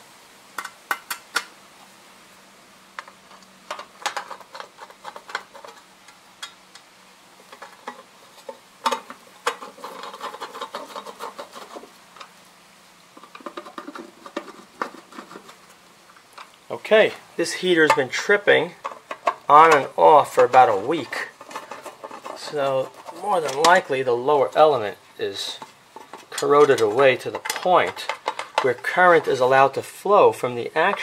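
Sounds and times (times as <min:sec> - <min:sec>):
metal cover and tool clinking: 0:03.0 - 0:12.3, 0:13.2 - 0:15.7, 0:16.3 - 0:29.8.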